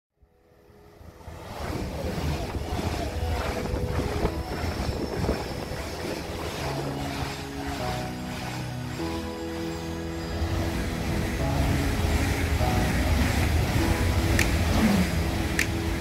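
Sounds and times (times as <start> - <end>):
faint music chords: 0.2 - 16.0
high-speed train rushing past: 0.5 - 16.0.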